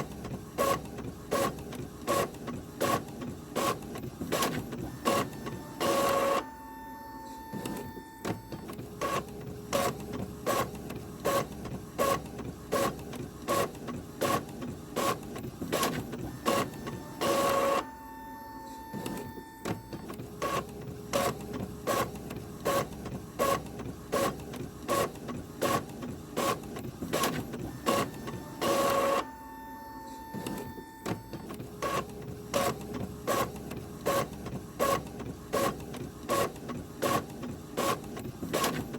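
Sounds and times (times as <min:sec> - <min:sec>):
printer feed whirring: 0:00.0 - 0:38.9
steady printer tone: 0:00.0 - 0:38.9.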